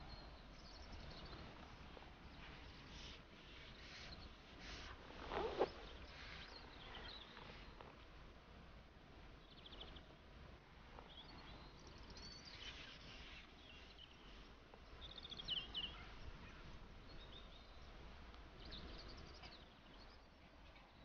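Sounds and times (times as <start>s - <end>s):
small birds chirping: 0.0s - 8.0s, 9.4s - 10.2s, 11.0s - 21.0s
faint outdoor background noise: 0.0s - 21.0s.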